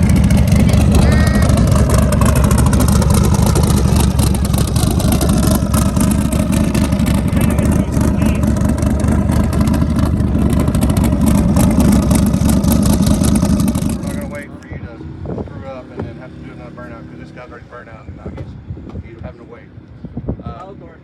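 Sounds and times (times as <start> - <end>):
vehicle engine low pulsing rumble: 0.0 - 21.0.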